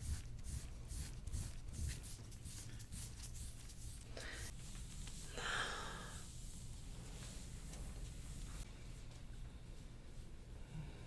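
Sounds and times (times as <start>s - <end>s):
hands rubbing skin and clothing: 0.0s - 5.4s, 6.2s - 10.4s.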